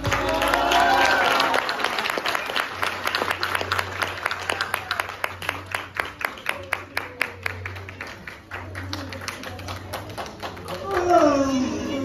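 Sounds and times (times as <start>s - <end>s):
audience clapping: 0.0s - 11.6s.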